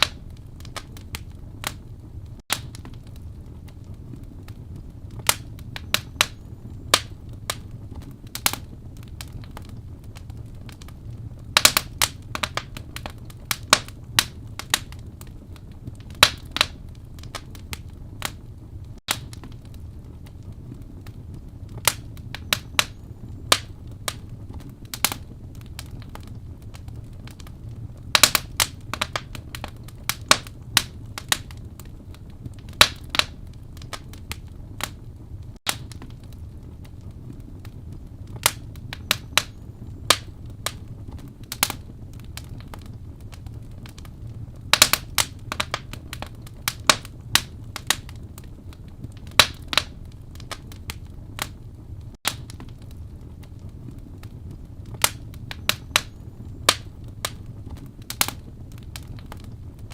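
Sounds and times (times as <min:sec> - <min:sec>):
fire crackles and pops: 0:00.0 - 0:59.9
low rumble of flames: 0:00.0 - 0:59.9.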